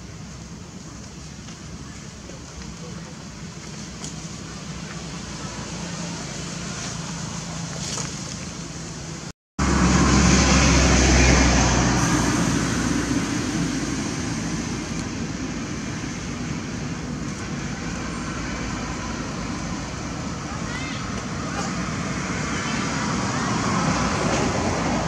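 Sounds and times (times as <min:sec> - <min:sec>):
distant rumble: 0:00.0 - 0:25.0.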